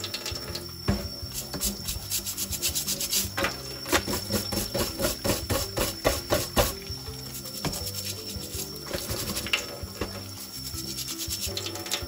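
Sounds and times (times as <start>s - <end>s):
brush scrubbing shell: 1.1s - 12.0s.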